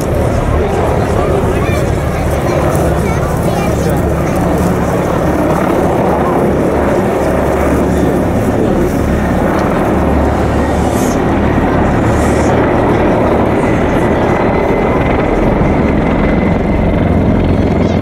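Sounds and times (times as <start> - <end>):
helicopters flying past: 0.0 - 18.0.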